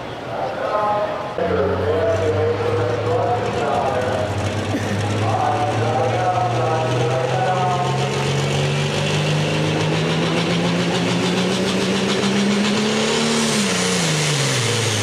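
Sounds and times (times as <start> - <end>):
tractor engine running flat out: 1.4 - 15.0.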